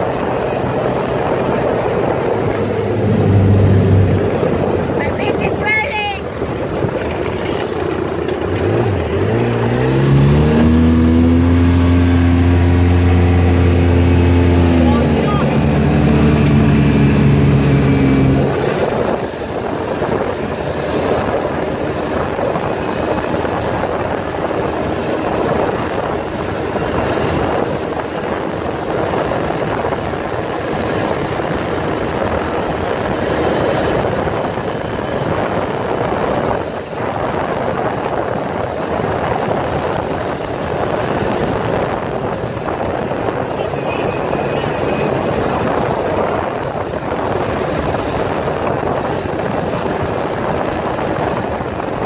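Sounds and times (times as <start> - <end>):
utility vehicle engine: 0.0 - 52.0
wind and road noise: 0.0 - 52.0.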